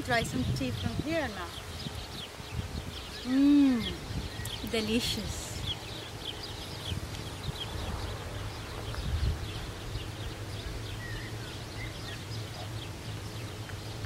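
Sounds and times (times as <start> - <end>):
small birds chirping: 0.0 - 14.0
wind rumble on microphone: 0.0 - 14.0.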